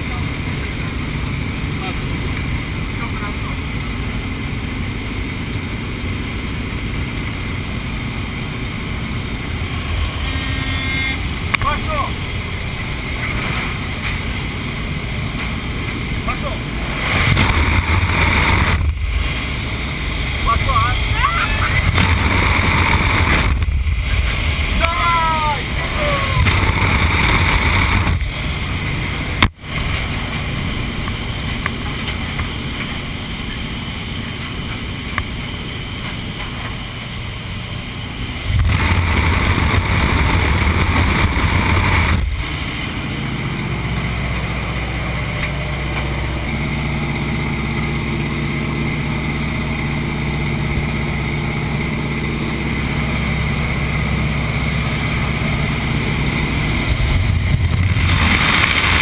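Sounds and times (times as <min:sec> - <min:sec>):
plane engine hum: 0:00.0 - 0:59.0
rushing wind: 0:00.0 - 0:59.0.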